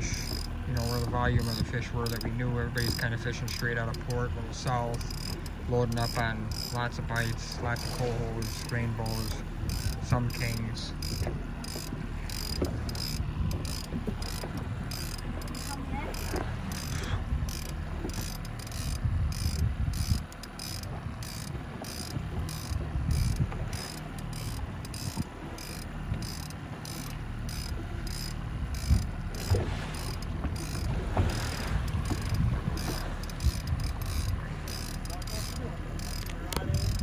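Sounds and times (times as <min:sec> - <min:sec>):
boat motor humming: 0:00.0 - 0:37.0
fishing reel clicking: 0:00.0 - 0:37.0.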